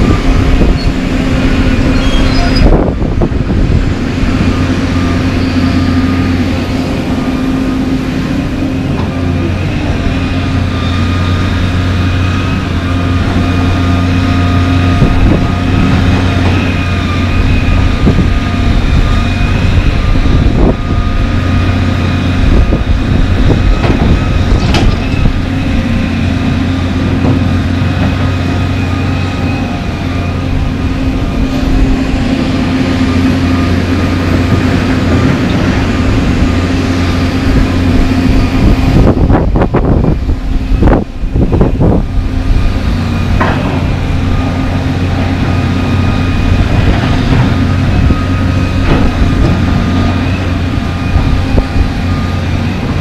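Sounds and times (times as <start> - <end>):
excavator diesel engine whining: 0.0 - 53.0.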